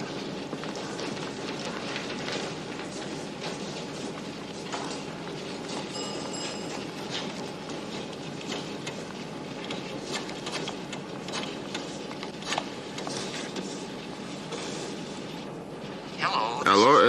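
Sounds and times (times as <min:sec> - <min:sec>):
office machines clattering: 0:00.0 - 0:17.0.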